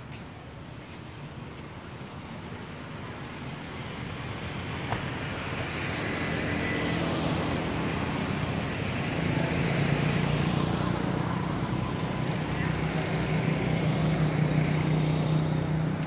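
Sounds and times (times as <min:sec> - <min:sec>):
vehicle engine hum with rushing: 0:00.0 - 0:16.0.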